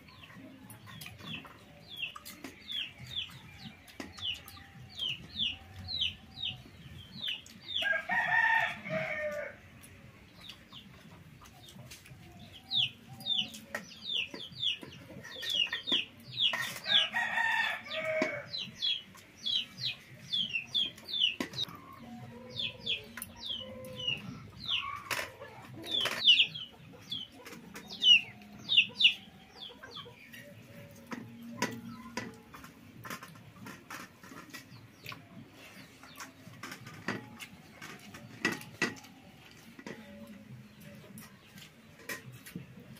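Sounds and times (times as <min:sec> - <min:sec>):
chickens chirping: 0:00.0 - 0:42.9.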